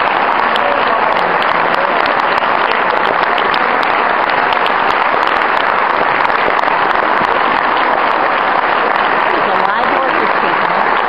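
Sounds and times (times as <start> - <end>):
large crowd applauding: 0.0 - 11.0.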